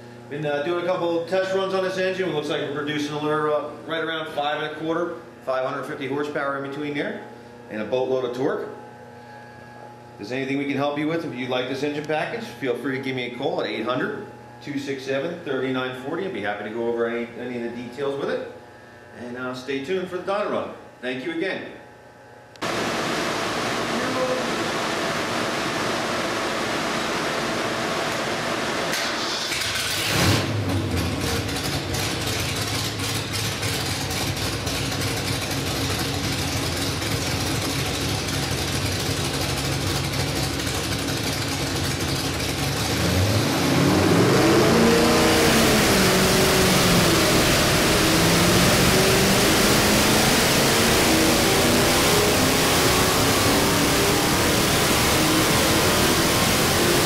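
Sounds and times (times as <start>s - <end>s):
engine running on a dyno: 0.0s - 20.2s, 22.4s - 57.0s.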